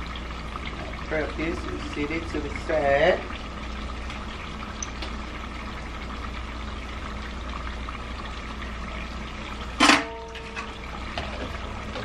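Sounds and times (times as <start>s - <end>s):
kitchen background hiss: 0.0s - 12.0s.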